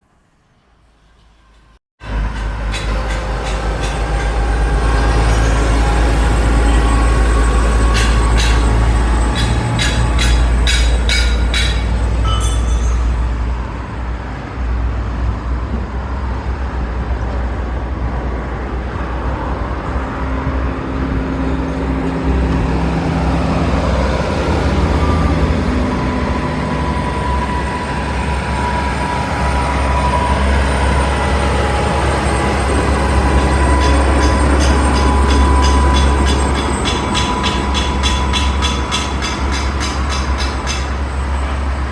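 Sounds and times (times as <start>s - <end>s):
moving vehicle rumble: 1.2s - 41.9s.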